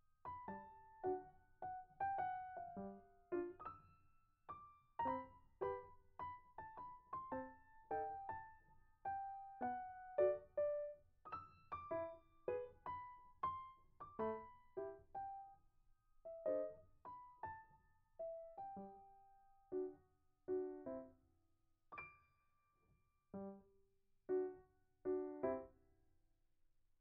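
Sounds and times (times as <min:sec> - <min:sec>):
light piano tune: 0:00.0 - 0:15.6, 0:16.2 - 0:21.1, 0:22.0 - 0:22.4, 0:23.4 - 0:23.7, 0:24.3 - 0:25.8.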